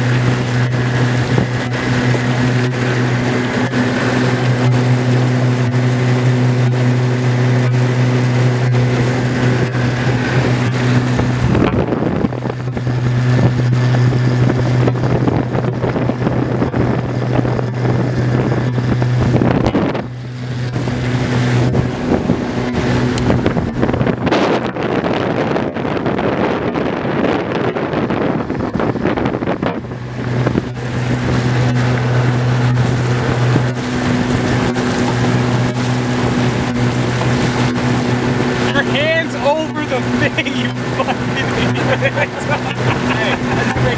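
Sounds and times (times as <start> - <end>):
outboard motor running: 0.0 - 43.9
water rushing past: 0.0 - 43.9
wind on microphone: 0.0 - 43.9.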